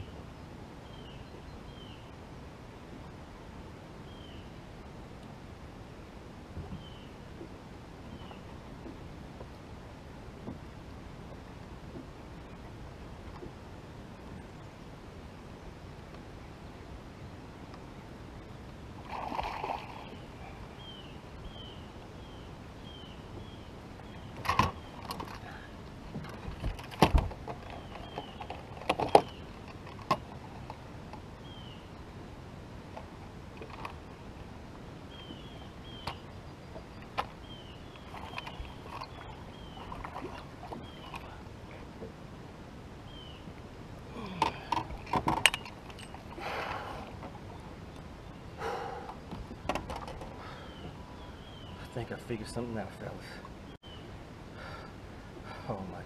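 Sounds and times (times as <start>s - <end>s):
steady low hiss: 0.0s - 56.0s.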